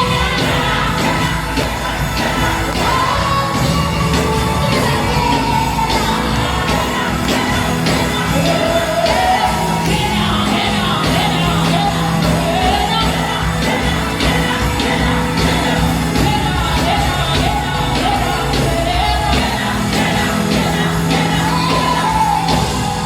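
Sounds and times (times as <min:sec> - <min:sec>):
gospel band playing: 0:00.0 - 0:23.0
people singing: 0:00.0 - 0:23.0.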